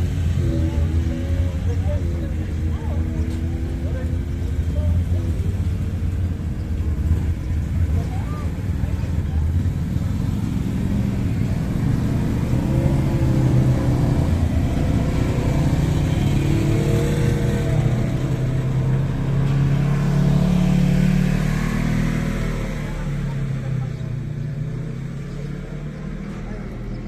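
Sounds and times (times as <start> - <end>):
off-road vehicle engines revving: 0.0 - 27.0.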